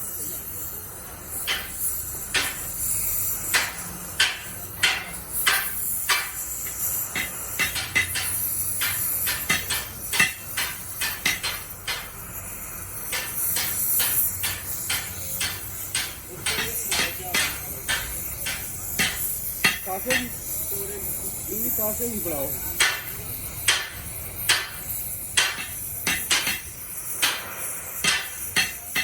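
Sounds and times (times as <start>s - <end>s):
sharp knocks and clanks: 1.3s - 12.3s, 13.1s - 20.6s, 22.4s - 29.0s
steady high hiss: 1.4s - 29.0s.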